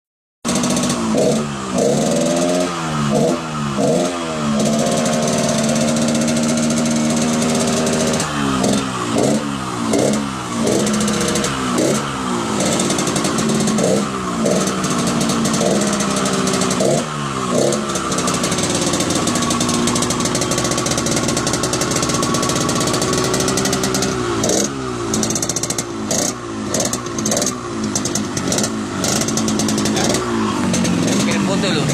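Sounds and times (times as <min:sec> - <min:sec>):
engine revving: 0:00.5 - 0:31.9.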